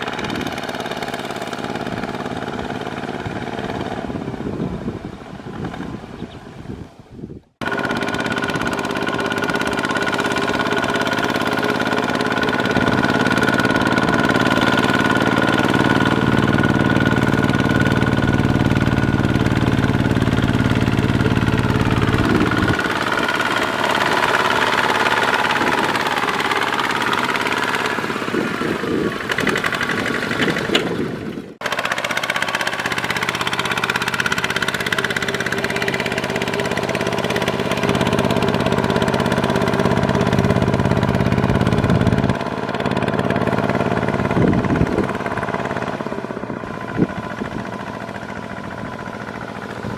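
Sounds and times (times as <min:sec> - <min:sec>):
tractor engine chugging: 0:00.0 - 0:06.3, 0:07.6 - 0:49.9.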